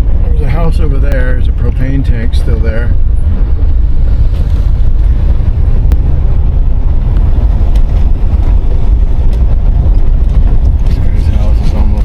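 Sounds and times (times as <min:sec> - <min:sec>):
car interior road and wind noise: 0:00.0 - 0:12.0.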